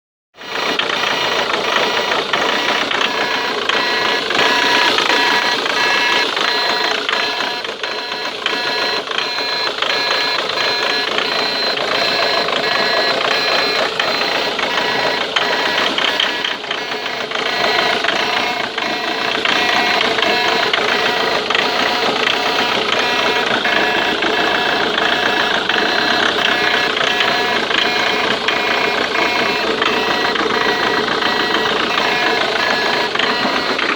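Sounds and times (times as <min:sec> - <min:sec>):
diesel engine running: 0:00.4 - 0:33.9
engine ticking clatter: 0:00.4 - 0:33.9
high engine whine: 0:00.4 - 0:33.9.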